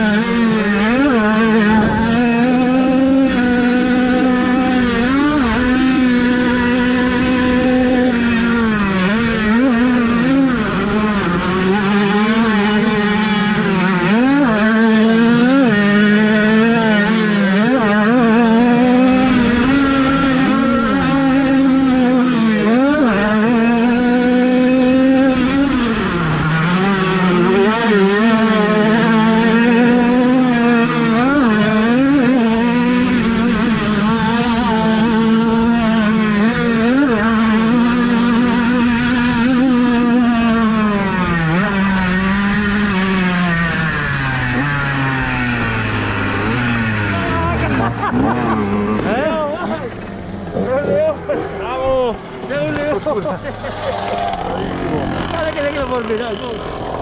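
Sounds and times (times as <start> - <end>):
minibike engines revving: 0.0 - 57.0.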